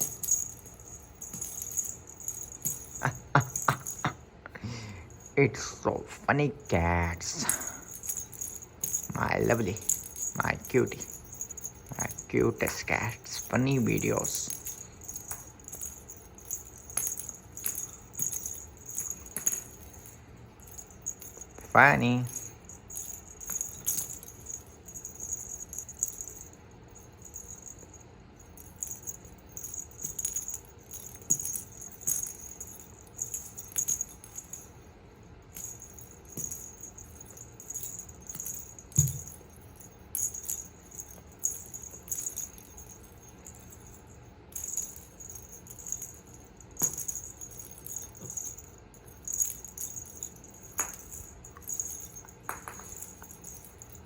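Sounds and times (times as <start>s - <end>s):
small bell jingling: 0.0s - 54.0s.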